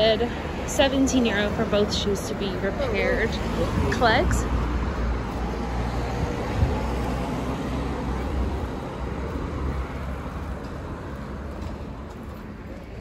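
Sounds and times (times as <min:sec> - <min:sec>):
passing cars rumble and hiss: 0:00.0 - 0:13.0.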